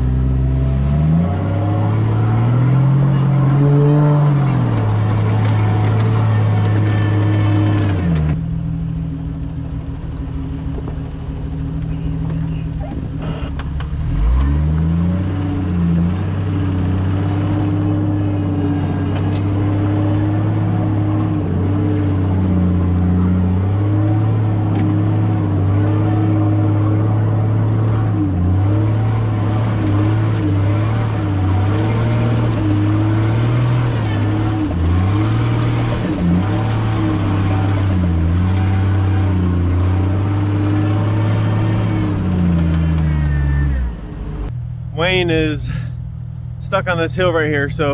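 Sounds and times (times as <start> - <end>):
off-road engine under load: 0.0 - 47.9.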